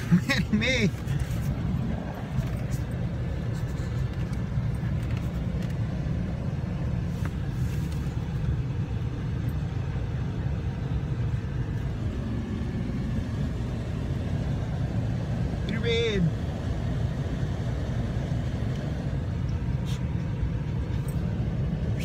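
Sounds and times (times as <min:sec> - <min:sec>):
van engine rumble: 0:00.0 - 0:22.0.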